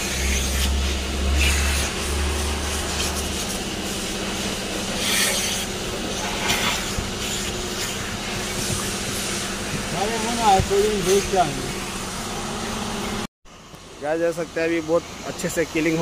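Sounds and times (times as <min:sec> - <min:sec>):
cloth wiping dashboard: 0:00.0 - 0:13.3
deeper hum: 0:00.0 - 0:13.3.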